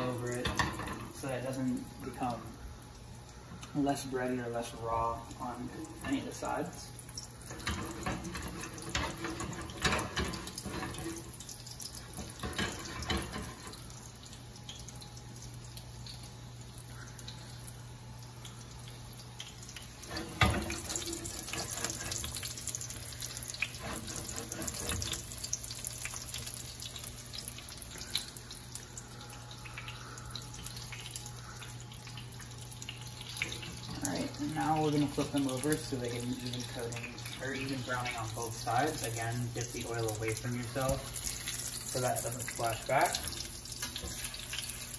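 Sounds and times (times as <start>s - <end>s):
chicken sizzling in hot oil: 0.0s - 44.9s.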